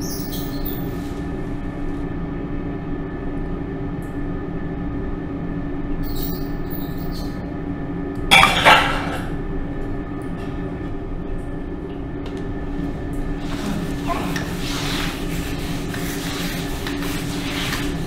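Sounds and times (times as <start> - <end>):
droning hum of held tones: 0.0 - 18.0.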